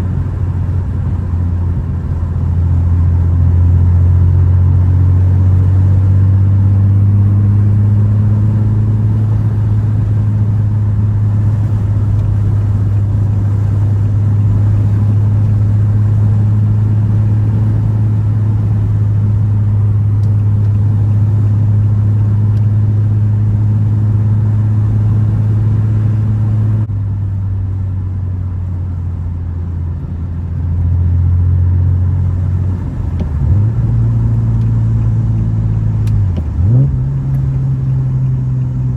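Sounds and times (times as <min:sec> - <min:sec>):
car engine droning: 0:00.0 - 0:38.9
road noise: 0:00.0 - 0:38.9.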